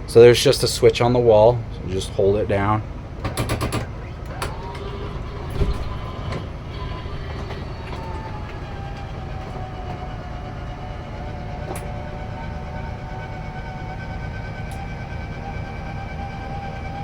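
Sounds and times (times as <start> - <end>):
faint motor whine: 0.0 - 17.0
slide-out mechanism rumbling: 2.7 - 17.0.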